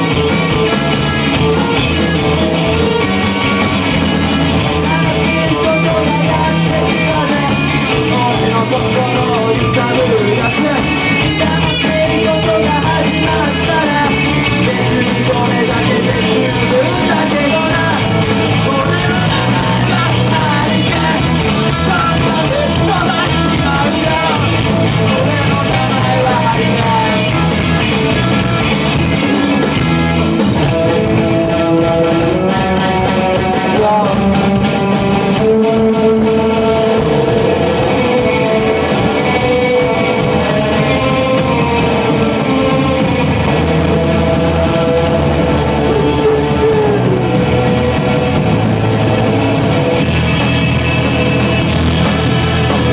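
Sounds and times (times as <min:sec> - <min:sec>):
person singing: 0:00.0 - 0:30.0, 0:30.6 - 0:52.9
punk rock band music: 0:00.0 - 0:52.9.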